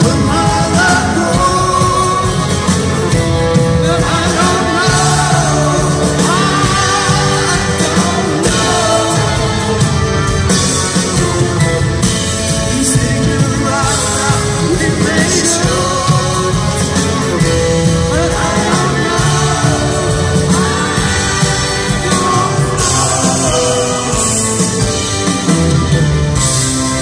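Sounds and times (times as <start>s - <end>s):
man singing: 0.0s - 10.3s, 12.3s - 26.6s
acoustic guitar: 0.0s - 27.0s
drums: 0.0s - 27.0s
electric guitar: 0.0s - 27.0s.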